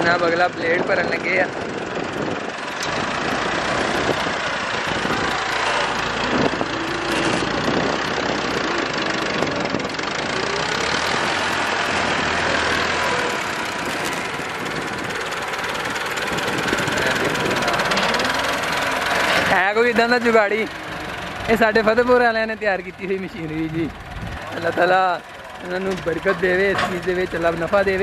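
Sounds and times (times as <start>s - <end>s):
diesel loader engine running: 0.0s - 28.0s.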